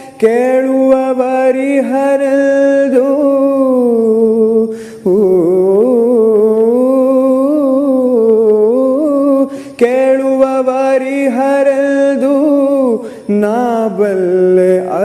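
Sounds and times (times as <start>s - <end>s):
man singing without words: 0.0s - 15.0s.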